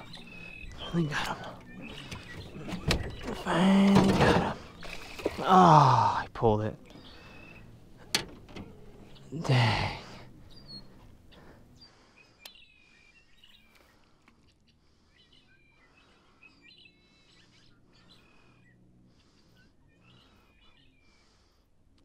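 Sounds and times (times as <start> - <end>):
faint bird chirps: 0.0 - 3.9, 6.7 - 7.8, 8.7 - 21.6.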